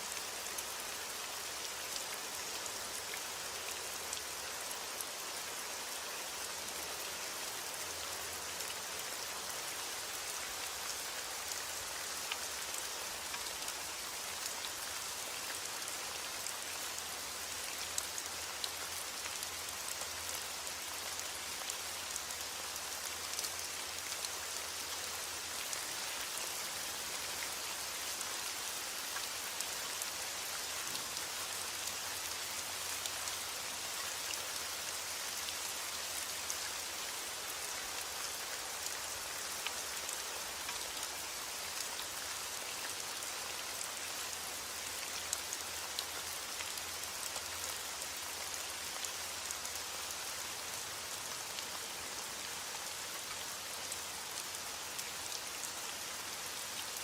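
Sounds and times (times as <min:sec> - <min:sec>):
raindrops ticking on a surface: 0:00.1 - 0:49.9.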